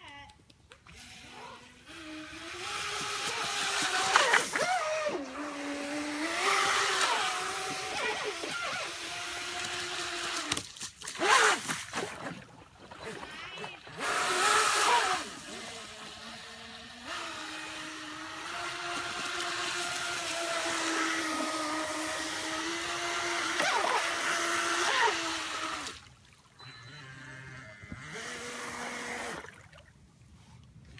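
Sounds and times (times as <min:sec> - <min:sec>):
electric motor whining: 0:00.9 - 0:10.6, 0:13.6 - 0:26.0, 0:26.6 - 0:29.4.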